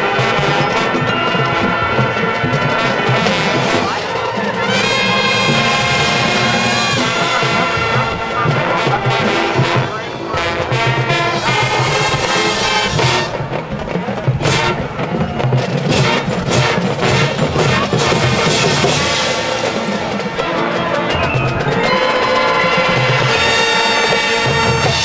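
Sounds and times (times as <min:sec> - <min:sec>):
held brass chord: 0:00.0 - 0:13.5, 0:15.9 - 0:25.0
marching band playing: 0:00.0 - 0:25.0
sharp percussion hits: 0:00.0 - 0:25.0.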